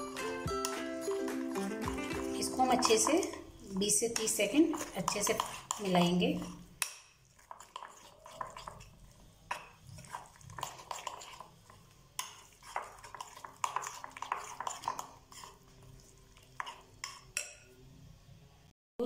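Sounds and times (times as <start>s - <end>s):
spoon scraping glass bowl: 0.6s - 17.8s.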